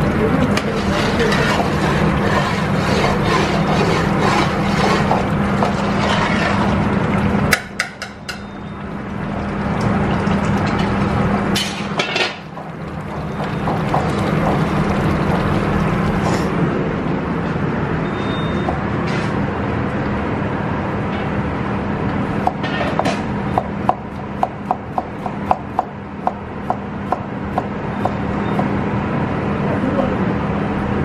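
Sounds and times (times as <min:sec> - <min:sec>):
gas range roaring: 0:00.0 - 0:31.0.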